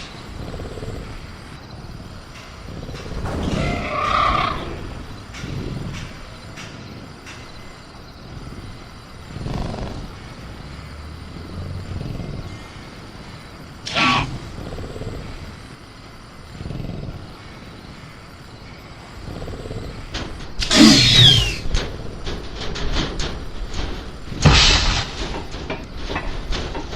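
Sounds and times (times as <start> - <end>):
crickets chirring: 0.0 - 26.9
low growling rumbles: 0.0 - 26.9.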